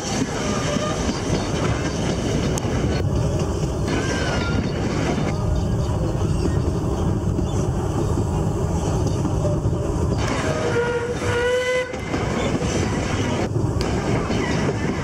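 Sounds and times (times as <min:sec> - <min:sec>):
train carriage rolling along track: 0:00.0 - 0:15.0
wind buffeting microphone: 0:00.0 - 0:15.0.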